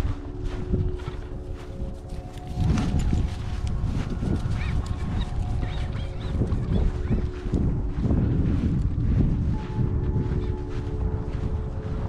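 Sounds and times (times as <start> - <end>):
faint held music notes: 0.0 - 12.0
wind buffeting microphone: 0.0 - 12.0.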